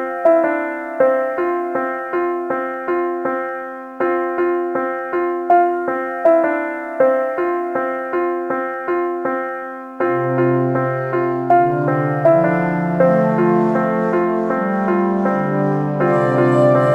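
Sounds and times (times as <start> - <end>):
piano-like keyboard notes: 0.0 - 16.9.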